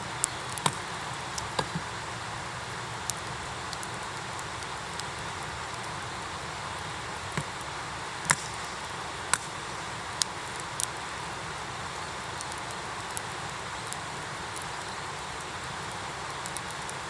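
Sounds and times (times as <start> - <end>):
campfire crackling and popping: 0.0 - 17.0
fire hissing: 0.0 - 17.0.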